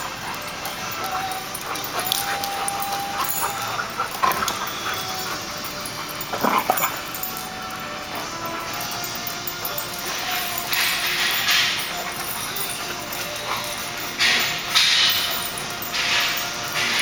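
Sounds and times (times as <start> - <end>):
dogs growling while playing: 0.0 - 17.0.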